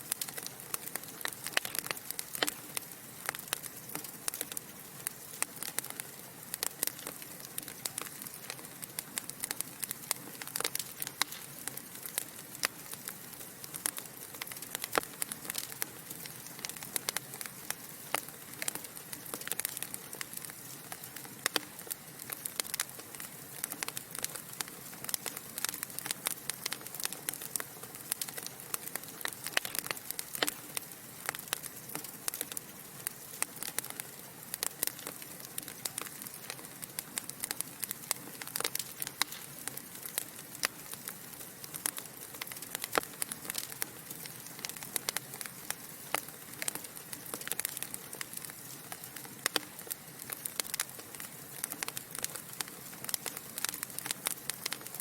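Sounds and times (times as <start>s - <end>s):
fire soft hiss: 0.0s - 55.0s
logs crackling and popping: 0.0s - 55.0s.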